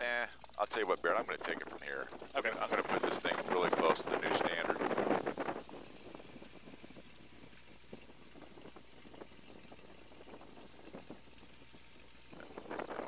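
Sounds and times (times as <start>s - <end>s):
faint radial engine idling: 0.0s - 13.0s.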